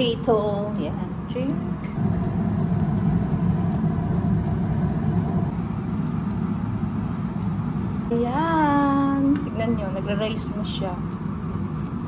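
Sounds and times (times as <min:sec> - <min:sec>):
dough frying in oil: 0:00.0 - 0:12.0
low rumble: 0:00.2 - 0:12.0.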